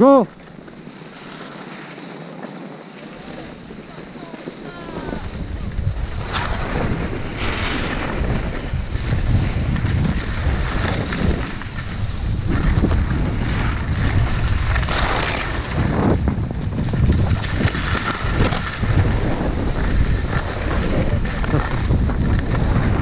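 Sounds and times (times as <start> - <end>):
skis scraping over snow: 0.0 - 23.0
wind buffeting microphone: 3.1 - 23.0.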